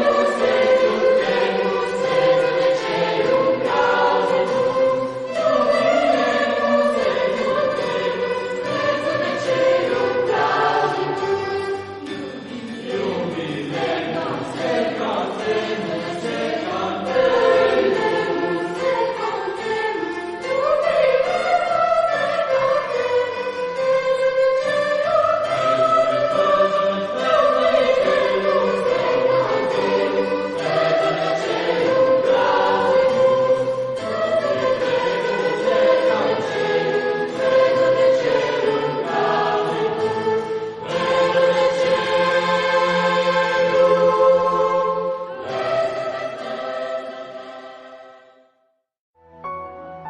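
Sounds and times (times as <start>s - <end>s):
choir singing sacred piece: 0.0s - 48.6s.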